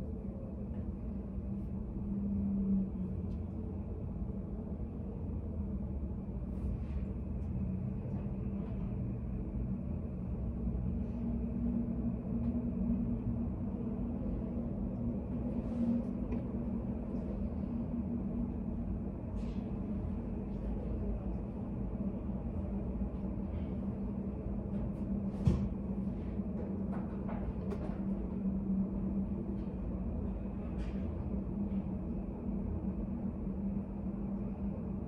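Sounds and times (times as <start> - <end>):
low room hum: 0.0 - 35.0.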